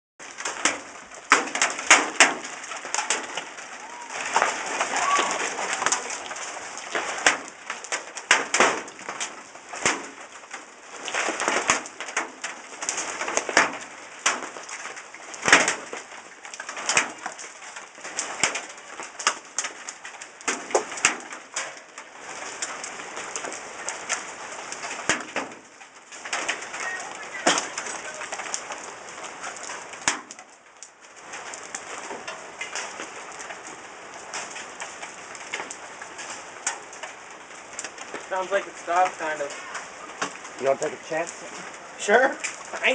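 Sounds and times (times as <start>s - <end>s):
hailstones striking hard surfaces: 0.2s - 42.9s
steady hiss of rain: 0.2s - 42.9s.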